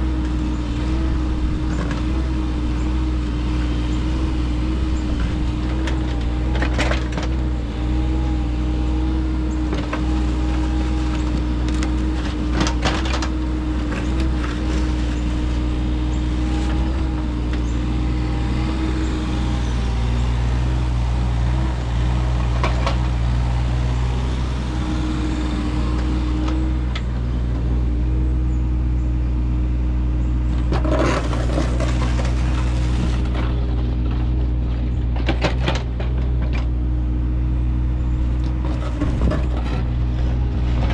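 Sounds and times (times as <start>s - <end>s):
machine engine running: 0.0s - 36.6s.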